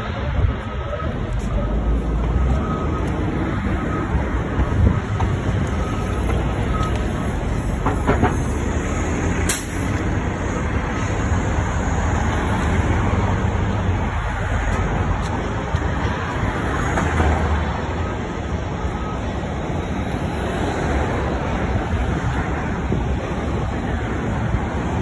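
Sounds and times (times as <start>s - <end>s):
bus and cars driving past: 0.0s - 25.0s.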